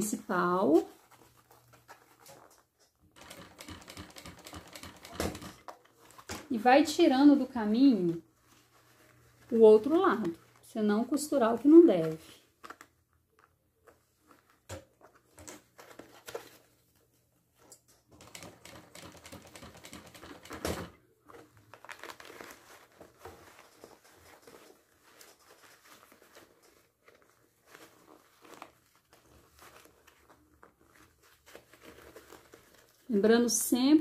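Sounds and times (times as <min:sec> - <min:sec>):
fabric rustling: 0:00.0 - 0:17.7, 0:18.3 - 0:34.0.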